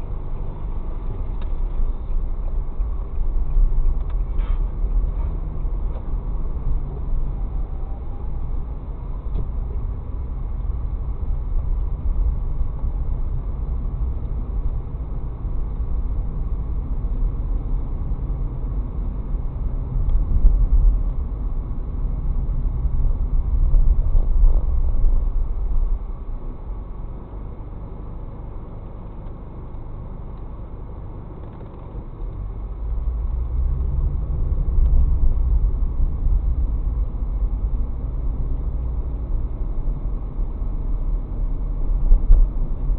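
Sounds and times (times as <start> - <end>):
car driving rumble from inside cabin: 0.0 - 42.9.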